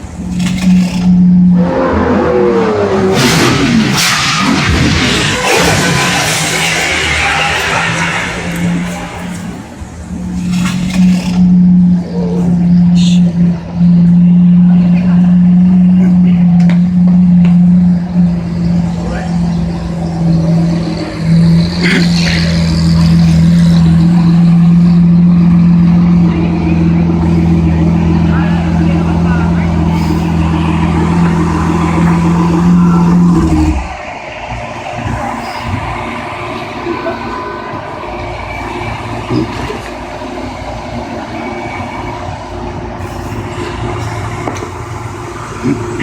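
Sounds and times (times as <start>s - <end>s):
car engine droning: 0.0s - 46.0s
traffic rumble: 0.0s - 46.0s.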